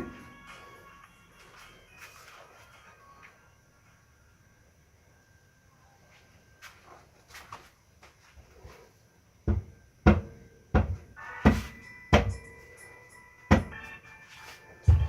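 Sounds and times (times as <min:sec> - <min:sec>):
steady ringing tone: 0:00.0 - 0:07.1, 0:08.6 - 0:15.0.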